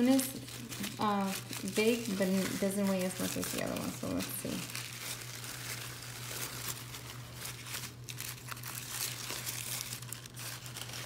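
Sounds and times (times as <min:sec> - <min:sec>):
packing wrap crinkling: 0:00.0 - 0:11.0.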